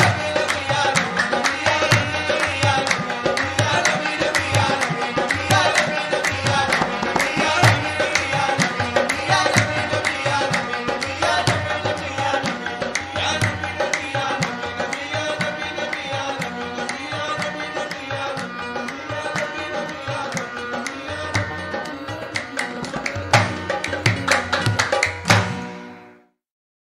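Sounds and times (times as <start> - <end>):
tabla playing fast strokes: 0.0 - 25.9.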